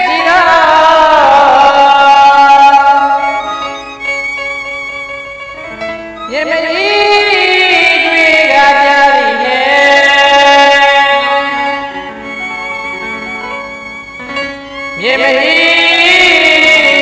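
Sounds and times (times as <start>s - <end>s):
person singing: 0.0s - 4.2s, 6.2s - 17.0s
instrumental held notes: 0.0s - 17.0s.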